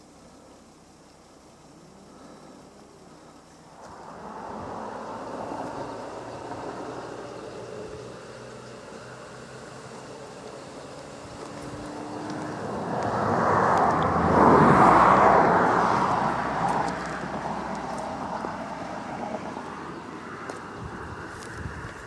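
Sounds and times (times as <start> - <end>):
vehicle passing by: 3.8 - 22.0.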